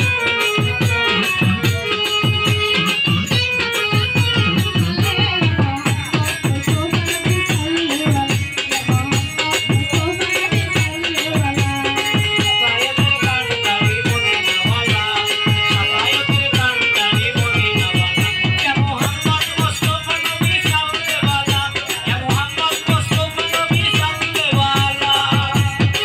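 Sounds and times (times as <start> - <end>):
dhol drum beating: 0.0 - 26.0
instrumental melody: 0.0 - 26.0
rattling percussion: 0.0 - 26.0.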